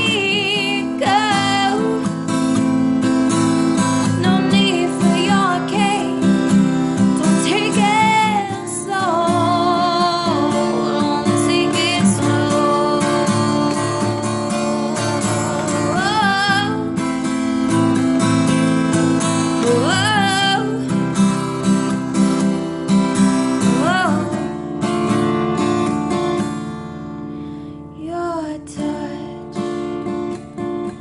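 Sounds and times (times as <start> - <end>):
strummed acoustic guitar chords: 0.0 - 31.0.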